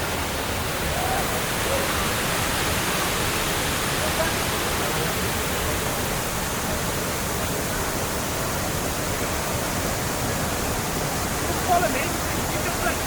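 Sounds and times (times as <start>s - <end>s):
waterfall roar: 0.0s - 13.0s.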